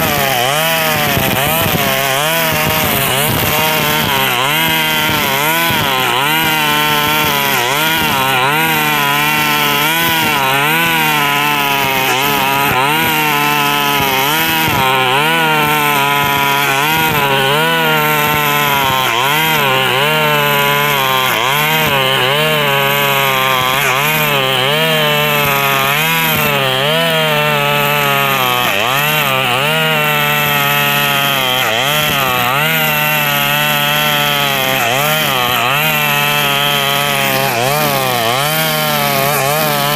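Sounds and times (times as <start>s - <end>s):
brush cutter engine running hard: 0.0s - 39.9s.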